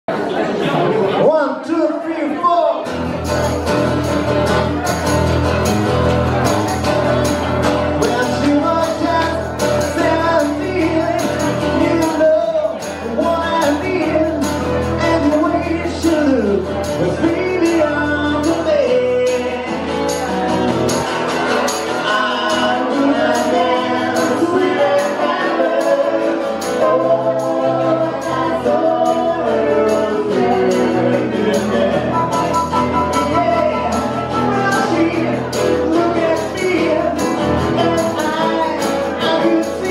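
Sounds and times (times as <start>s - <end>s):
acoustic guitar: 0.1s - 39.9s
hand percussion beat: 3.1s - 39.9s
voices singing: 6.7s - 39.9s.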